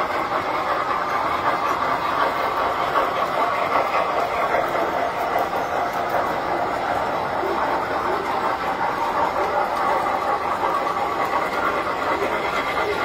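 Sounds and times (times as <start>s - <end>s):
toy train running on track: 0.0s - 13.0s.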